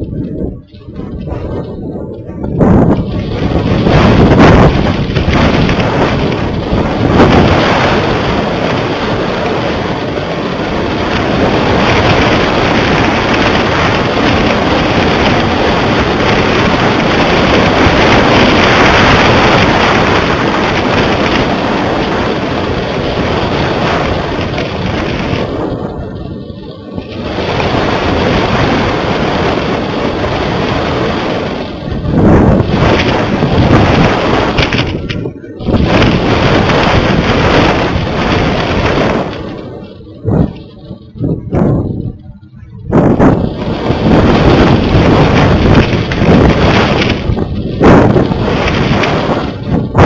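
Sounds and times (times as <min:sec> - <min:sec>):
wind buffeting microphone: 0:00.0 - 0:50.0.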